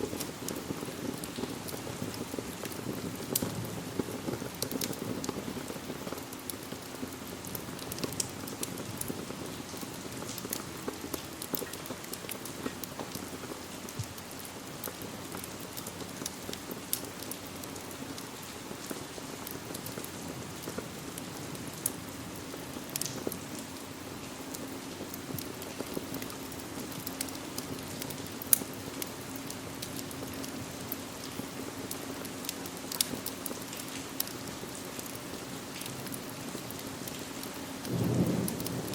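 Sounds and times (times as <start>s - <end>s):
steady rain: 0.0s - 38.9s
wood fire crackling and popping: 0.0s - 38.9s.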